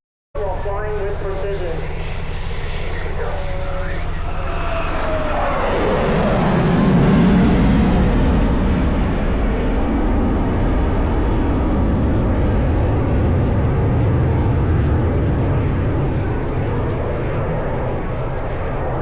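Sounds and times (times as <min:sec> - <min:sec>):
aircraft engine rumble flying over: 0:00.4 - 0:19.0.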